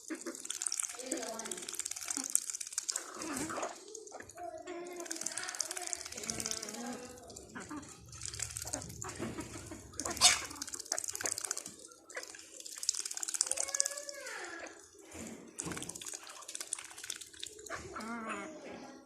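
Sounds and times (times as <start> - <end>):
water splashing and sloshing: 0.0 - 18.7.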